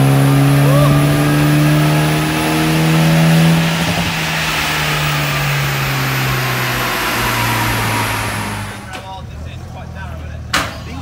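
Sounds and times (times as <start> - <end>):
dyno rollers: 0.0 - 9.2
car engine revving down: 0.0 - 10.5.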